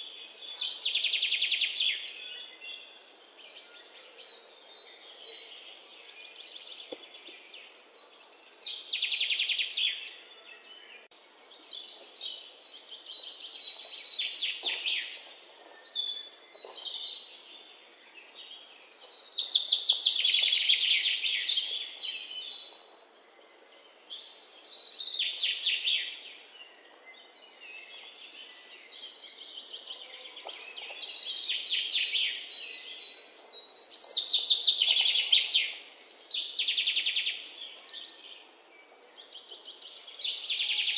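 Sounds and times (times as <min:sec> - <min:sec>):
birds singing trilled chirps: 0:00.0 - 0:40.9.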